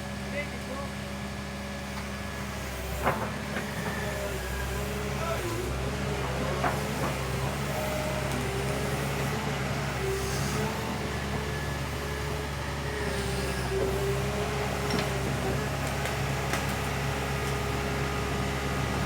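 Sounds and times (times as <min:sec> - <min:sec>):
diesel engine running: 0:01.5 - 0:19.0.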